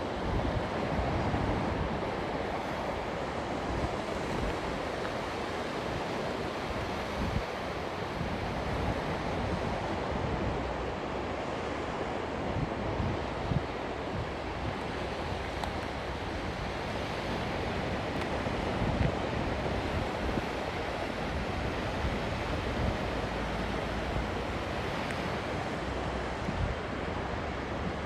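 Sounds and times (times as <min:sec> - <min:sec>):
wind buffeting microphone: 0:00.0 - 0:11.1, 0:11.7 - 0:28.0
sea waves breaking on beach: 0:00.0 - 0:28.0.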